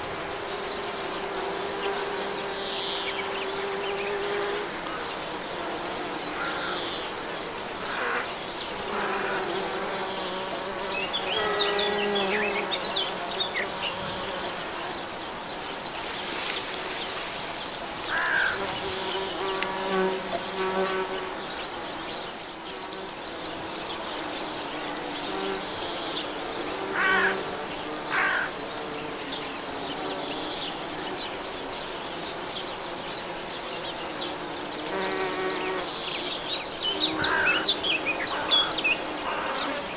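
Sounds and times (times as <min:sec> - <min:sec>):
bees buzzing: 0:00.0 - 0:39.9
birds chirping: 0:00.0 - 0:39.9.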